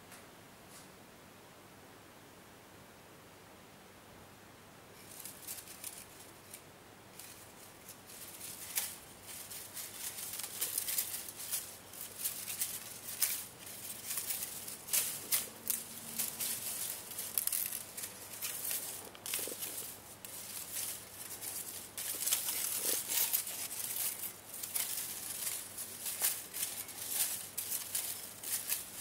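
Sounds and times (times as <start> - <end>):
fingers rustling dry leaves: 5.0 - 29.0.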